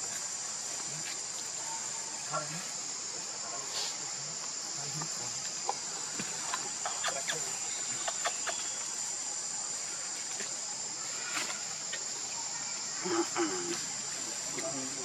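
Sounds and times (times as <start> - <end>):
insect drone: 0.0 - 15.0
short insect chirps: 0.0 - 15.0.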